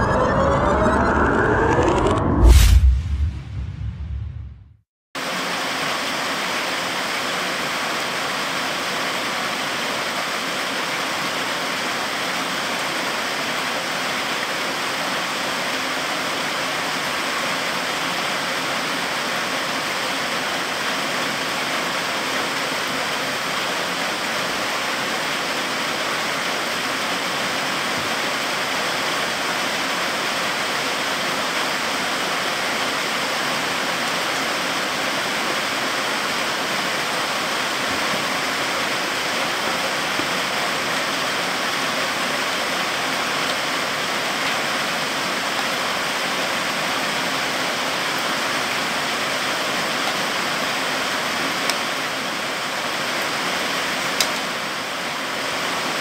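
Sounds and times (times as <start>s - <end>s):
heavy rain on trees: 5.2s - 56.0s.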